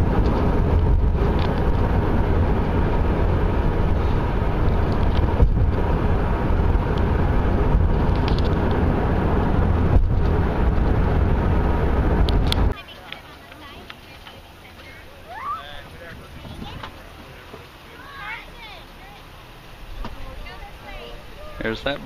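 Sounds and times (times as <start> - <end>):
road and tyre noise in car: 0.0 - 22.0.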